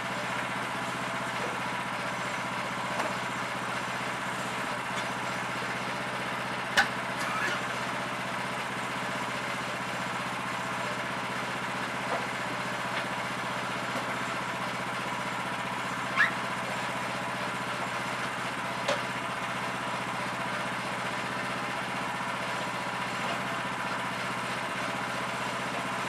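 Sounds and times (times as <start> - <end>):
small gas engine idling: 0.0 - 26.0.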